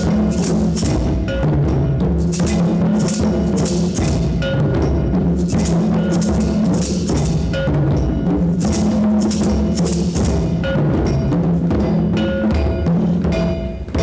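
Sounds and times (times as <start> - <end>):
hand drums: 0.0 - 14.0.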